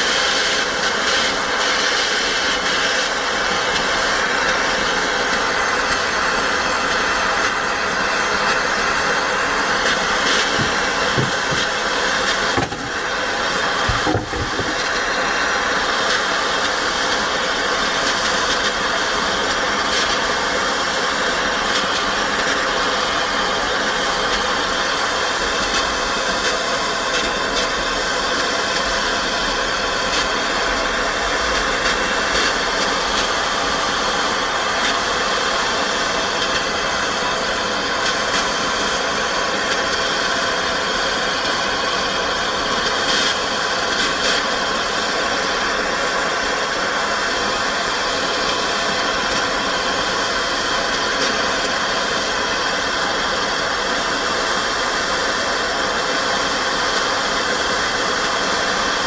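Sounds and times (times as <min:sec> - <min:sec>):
machine hissing with tones: 0:00.0 - 0:59.0.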